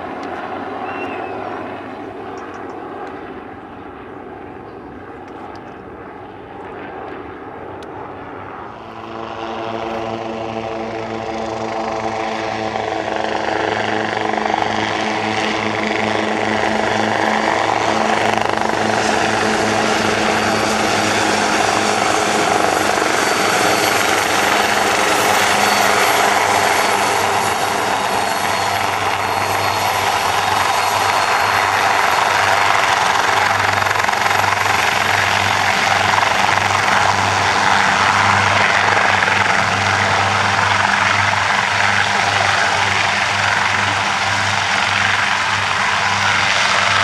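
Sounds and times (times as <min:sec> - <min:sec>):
helicopter engines and rotors droning: 0:00.0 - 0:47.0.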